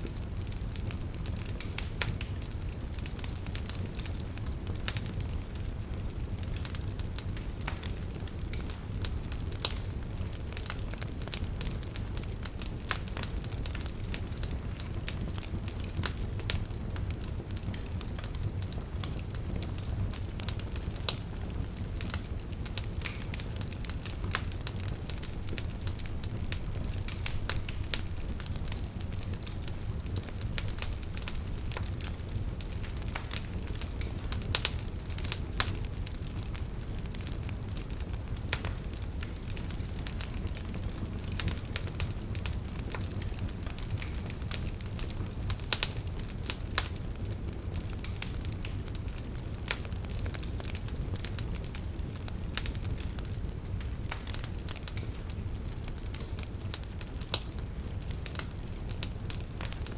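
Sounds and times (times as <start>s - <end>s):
burning logs crackling and popping: 0.0s - 59.9s
fire rumbling: 0.0s - 59.9s.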